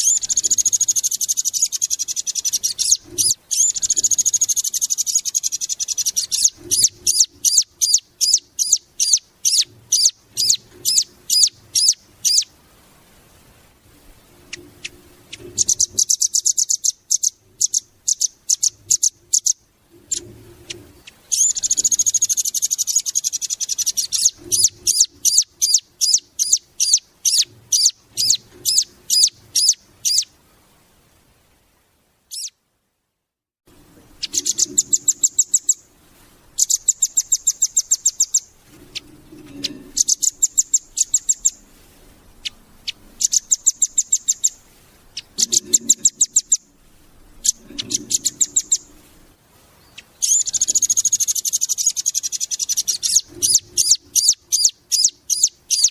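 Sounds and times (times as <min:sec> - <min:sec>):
bird singing fast high trills: 0:00.0 - 0:12.5, 0:14.8 - 0:20.2, 0:21.0 - 0:30.3, 0:32.3 - 0:32.6, 0:34.2 - 0:35.9, 0:36.6 - 0:41.6, 0:42.4 - 0:46.7, 0:47.4 - 0:48.9, 0:49.8 - 0:55.9.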